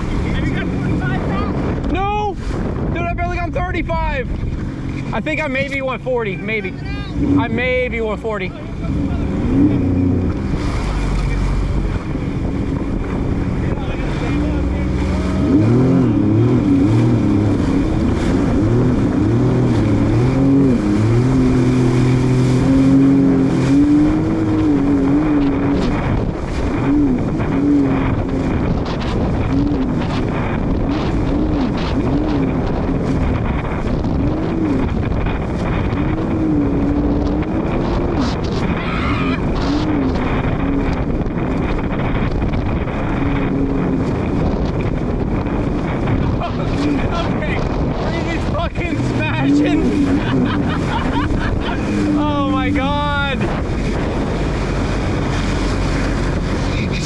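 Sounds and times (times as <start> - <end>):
jet ski engine running: 0.0 - 57.0
rush of wind and water: 0.0 - 57.0.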